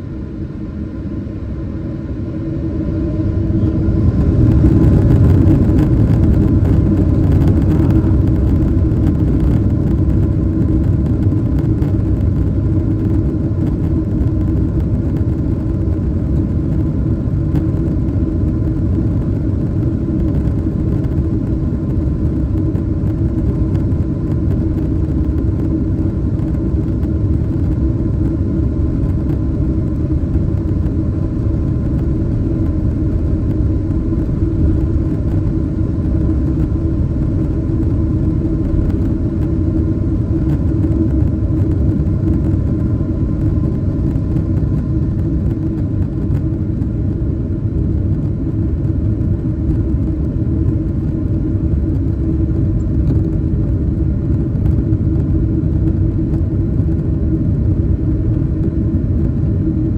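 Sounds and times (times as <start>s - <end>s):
jet engines spooling up and rumbling: 0.0s - 59.9s.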